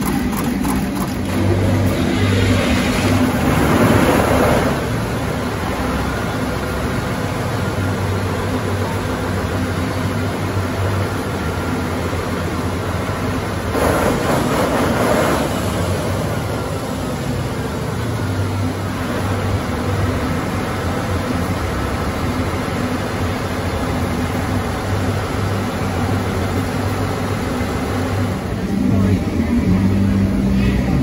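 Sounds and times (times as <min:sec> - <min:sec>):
stationary engine running: 0:00.0 - 0:31.0.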